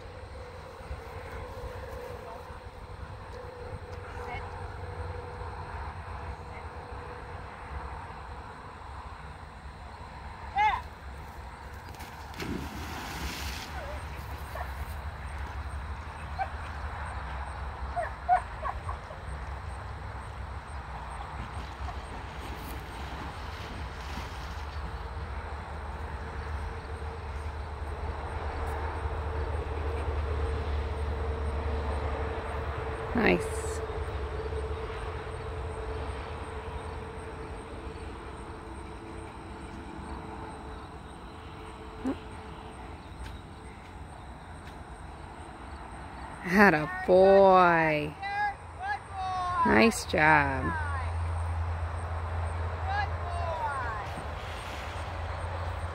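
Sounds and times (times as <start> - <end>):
faint droning hum: 0.0 - 55.9
low outdoor rumble: 0.0 - 55.9.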